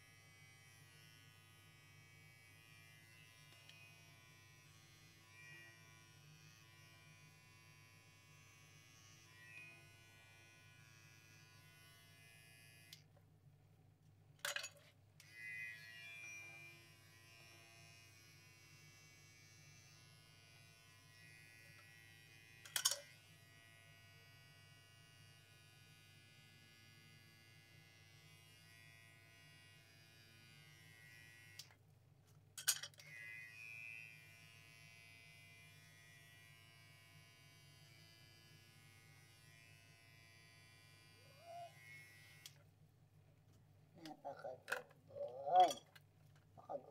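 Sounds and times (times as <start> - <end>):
electric hair trimmer buzzing: 0.1 - 13.0, 15.2 - 31.7, 33.0 - 42.6.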